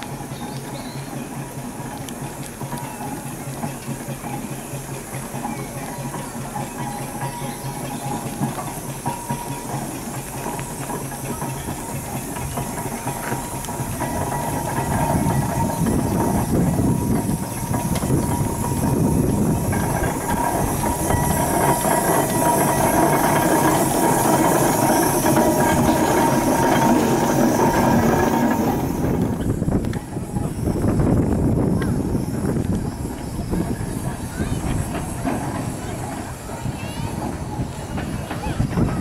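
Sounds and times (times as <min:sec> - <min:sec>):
hissing steam: 0:00.0 - 0:39.0
steam vehicle running: 0:00.0 - 0:39.0.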